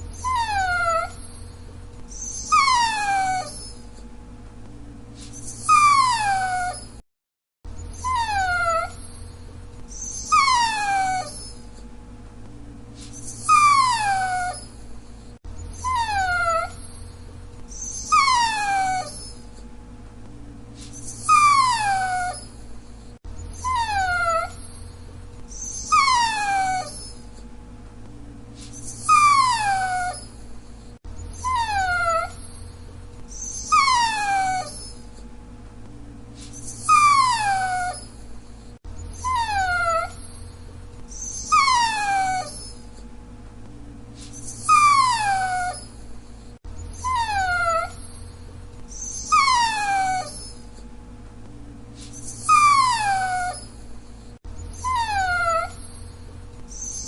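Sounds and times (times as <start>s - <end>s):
dog whining: 0.0s - 4.1s, 5.2s - 7.0s, 7.7s - 11.9s, 13.0s - 19.7s, 20.8s - 27.5s, 28.6s - 35.3s, 36.4s - 43.1s, 44.2s - 50.9s, 52.0s - 57.0s.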